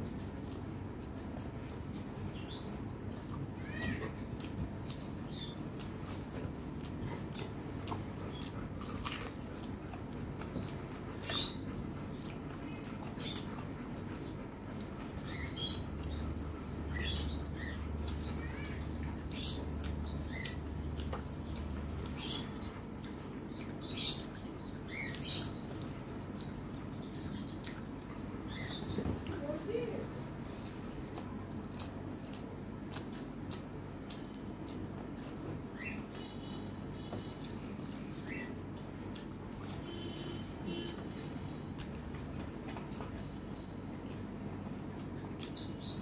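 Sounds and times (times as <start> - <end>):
chewing and wet mouth sounds: 0.0 - 46.0
steady low hum: 0.0 - 46.0.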